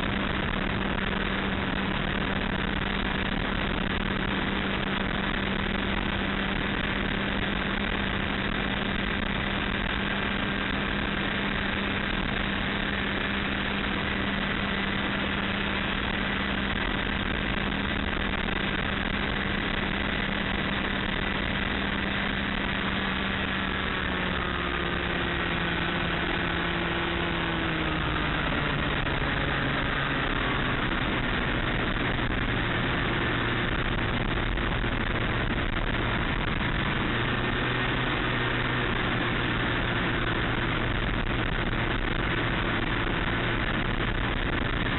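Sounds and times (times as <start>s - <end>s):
aircraft engine and propeller: 0.0s - 44.9s
wind rush: 0.0s - 44.9s.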